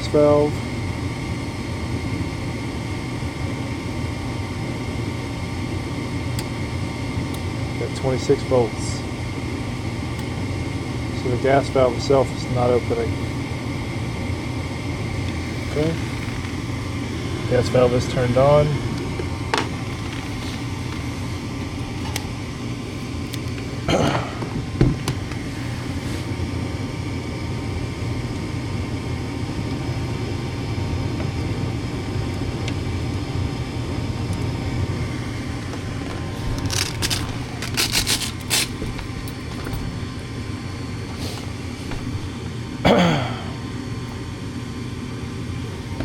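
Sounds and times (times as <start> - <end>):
furnace motor humming: 0.0 - 46.0.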